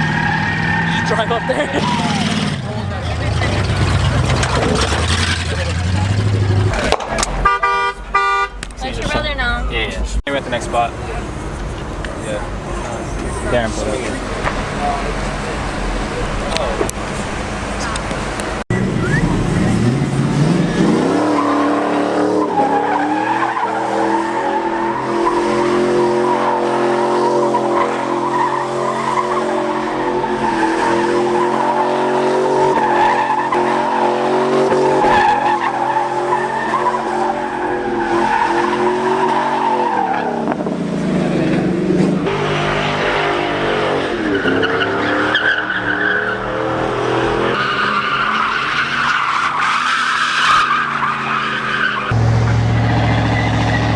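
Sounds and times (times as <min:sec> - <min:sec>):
tyres squealing: 0:00.0 - 0:42.3, 0:43.0 - 0:53.9
truck engine revving: 0:00.0 - 0:53.9.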